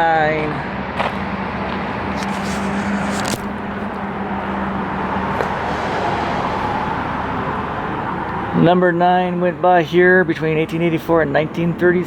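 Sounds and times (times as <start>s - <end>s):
low engine hum: 0.0s - 12.0s
motor-vehicle noise: 0.0s - 12.0s.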